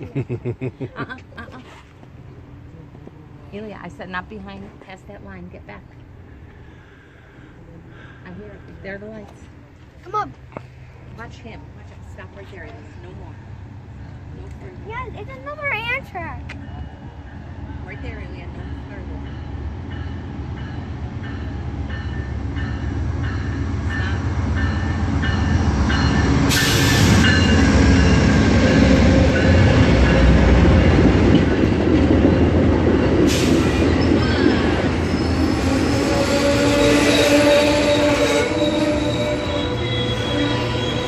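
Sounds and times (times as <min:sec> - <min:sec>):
passenger train rolling past: 0:00.0 - 0:10.0, 0:10.6 - 0:41.0.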